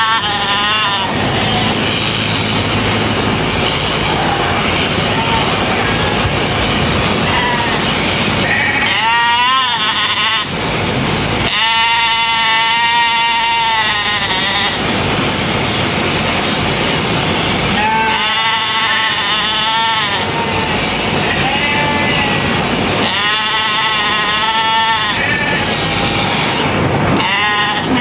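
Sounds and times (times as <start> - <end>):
sheep bleating: 0.0 - 10.5, 11.4 - 14.9, 17.7 - 28.0
electric clippers buzzing: 0.0 - 28.0.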